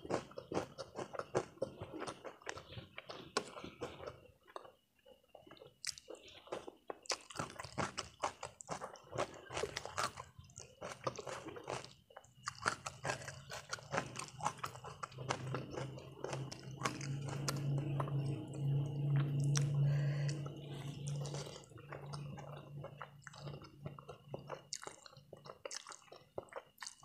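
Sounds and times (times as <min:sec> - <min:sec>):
chewing noodles with mouth smacks: 0:00.0 - 0:27.0.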